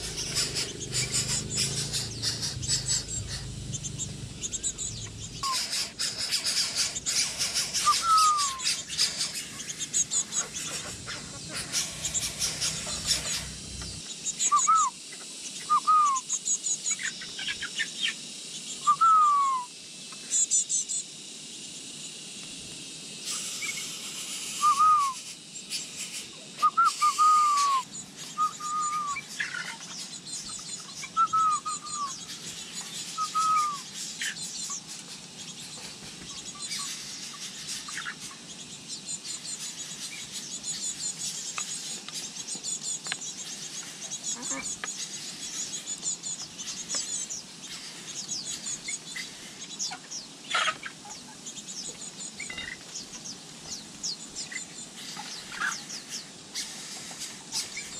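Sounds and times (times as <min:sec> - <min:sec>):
faint high bird chirps: 0:00.0 - 0:21.0, 0:23.3 - 0:56.7
birds calling: 0:00.0 - 0:57.9.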